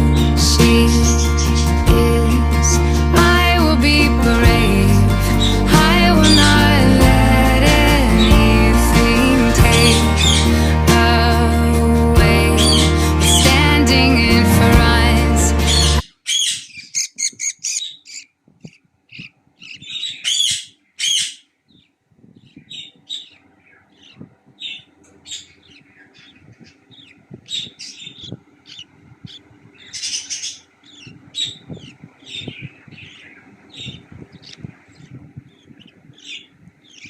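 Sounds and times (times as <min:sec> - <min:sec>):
budgerigars chirping and squawking: 0:00.0 - 0:03.6, 0:04.5 - 0:37.0.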